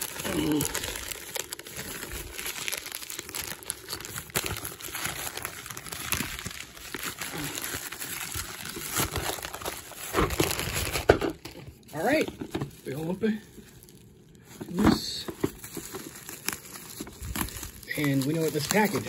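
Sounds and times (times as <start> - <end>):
plastic mailer crinkling: 0.0 - 19.0.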